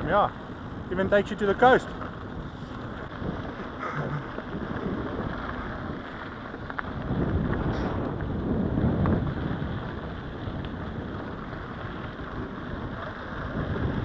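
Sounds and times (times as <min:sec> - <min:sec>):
tyres rumbling on gravel: 0:00.0 - 0:14.0
wind buffeting microphone: 0:00.0 - 0:14.0.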